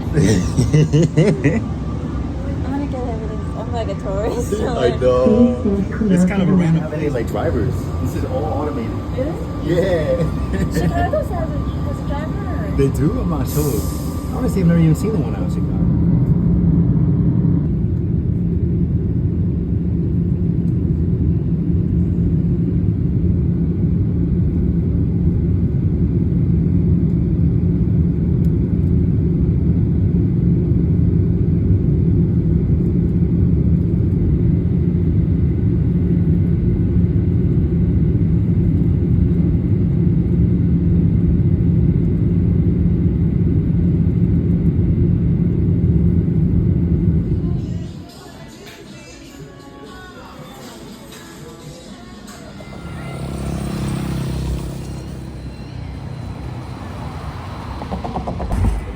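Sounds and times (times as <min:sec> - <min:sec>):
vehicle rumble from inside: 0:00.0 - 0:48.0, 0:52.3 - 0:58.9
constant low hum: 0:00.0 - 0:48.2, 0:52.2 - 0:58.9.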